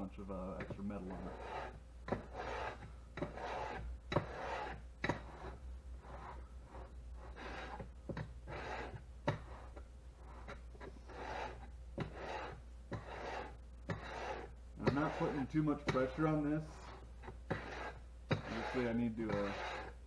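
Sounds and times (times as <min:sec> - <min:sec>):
blade rasping on sharpening stone: 0:01.1 - 0:20.0.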